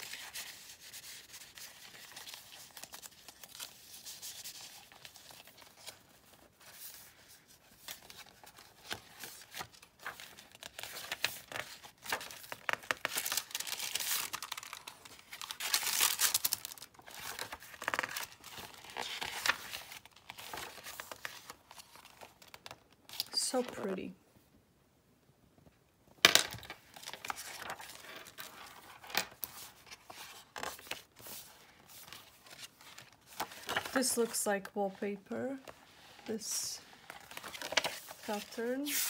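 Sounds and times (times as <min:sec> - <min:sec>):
paper pages rustling and flipping: 0:00.0 - 0:23.8, 0:26.6 - 0:39.0.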